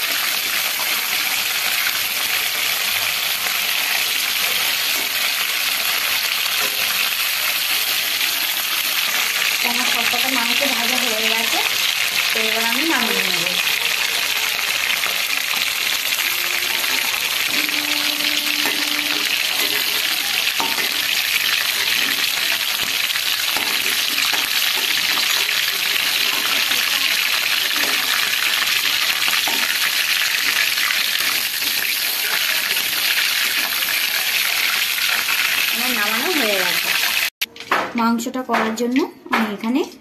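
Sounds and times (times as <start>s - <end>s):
chicken sizzling in oil: 0.0s - 37.4s.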